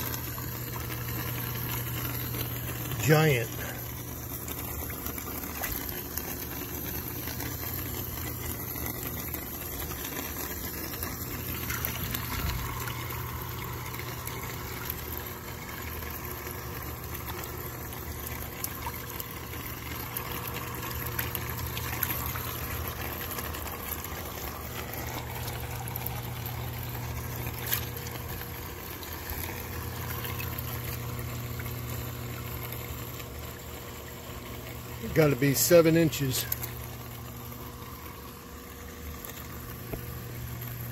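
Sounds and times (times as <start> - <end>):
low pump hum: 0.0 - 40.9
water bubbling and trickling: 0.0 - 40.9.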